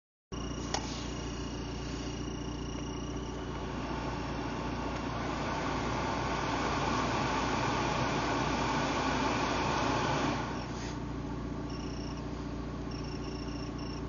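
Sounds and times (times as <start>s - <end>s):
blower motor rushing air: 0.4s - 13.0s.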